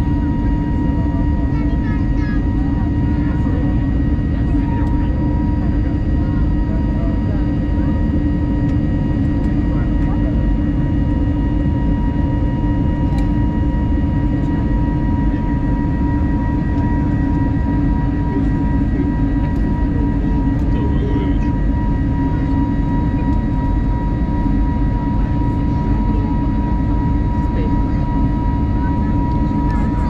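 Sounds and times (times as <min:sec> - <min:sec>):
aircraft engine rumble: 0:00.0 - 0:30.0
steady high whine: 0:00.0 - 0:30.0.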